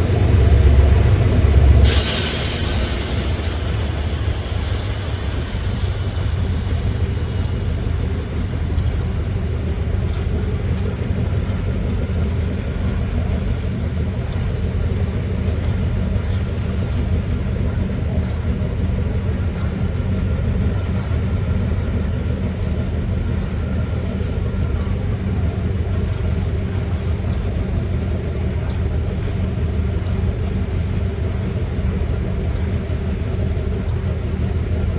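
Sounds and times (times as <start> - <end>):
locomotive engine rumbling: 0.0 - 34.9
light irregular ticks: 4.7 - 34.7.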